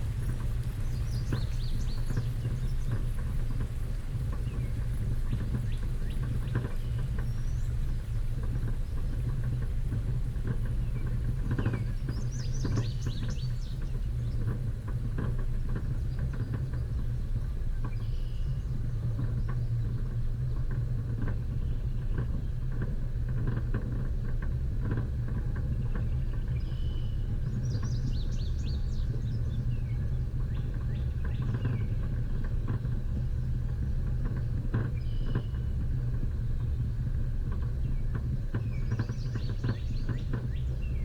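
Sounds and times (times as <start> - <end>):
knocks and rattles from bumpy ride: 0.0 - 41.0
off-road vehicle engine running: 0.0 - 41.0.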